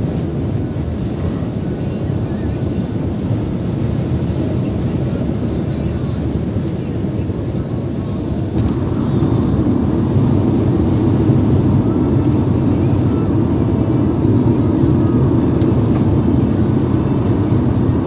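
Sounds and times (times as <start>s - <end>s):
road and wind noise in car: 0.0s - 18.0s.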